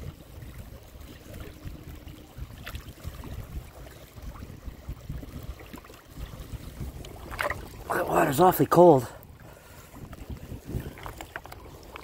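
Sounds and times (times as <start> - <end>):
lake waves lapping at shore: 0.0 - 12.0
wind buffeting microphone: 0.0 - 12.0.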